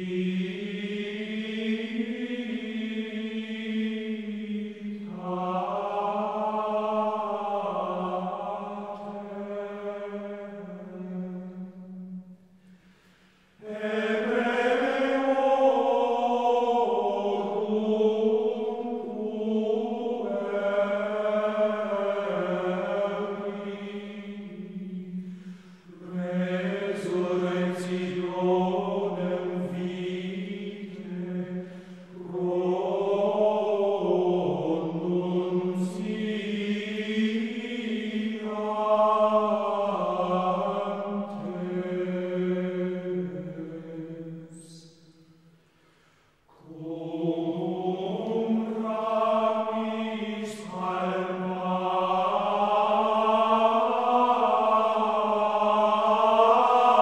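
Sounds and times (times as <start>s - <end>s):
person chanting: 0.0s - 12.4s, 13.6s - 45.4s, 46.5s - 57.0s.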